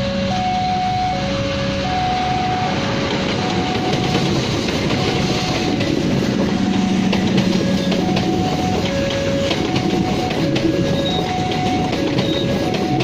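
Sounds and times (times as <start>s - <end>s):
train coaches rolling past: 0.0s - 13.0s.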